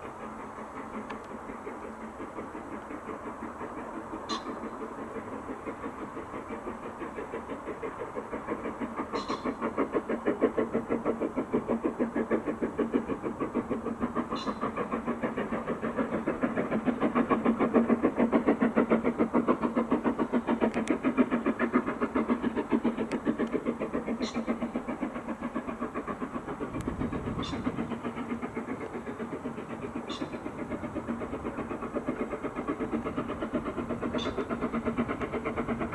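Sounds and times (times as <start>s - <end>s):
steam locomotive exhaust beats: 0.0s - 35.9s.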